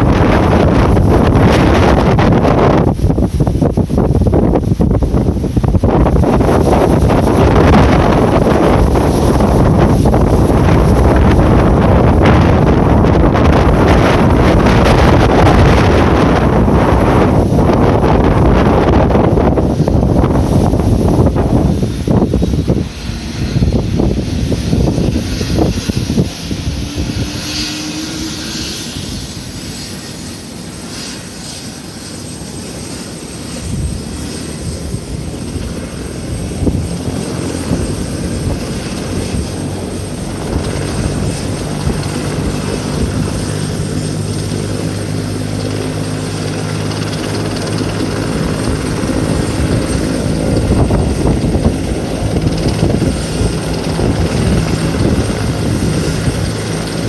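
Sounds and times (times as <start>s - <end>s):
helicopter engine and rotor: 0.0s - 57.0s
low humming tones: 0.0s - 57.0s.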